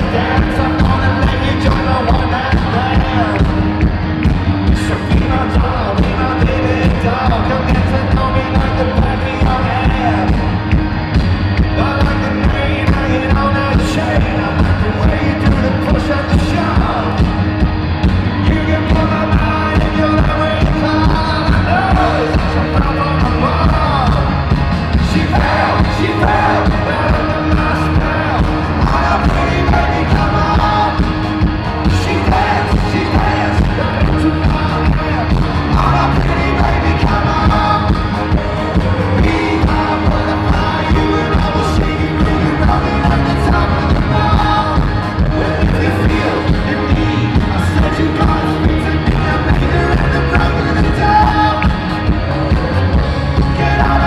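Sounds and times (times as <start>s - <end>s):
person singing: 0.0s - 10.8s, 11.6s - 17.5s, 18.3s - 54.0s
live rock band playing: 0.0s - 54.0s.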